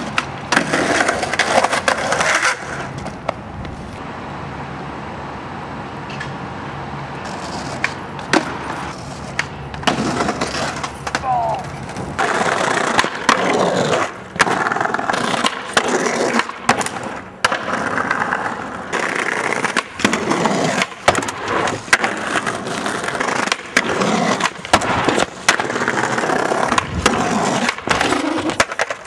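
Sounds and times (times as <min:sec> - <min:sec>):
skateboard clacks: 0:00.0 - 0:04.0, 0:07.2 - 0:29.0
skateboard grinding on brick ledge: 0:00.0 - 0:04.0, 0:07.2 - 0:29.0
skateboard wheels rolling on concrete: 0:00.0 - 0:29.0.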